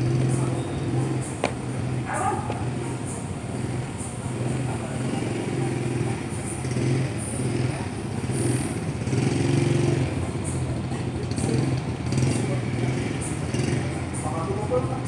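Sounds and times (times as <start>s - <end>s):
small motorcycle engine revving: 2.6s - 14.9s.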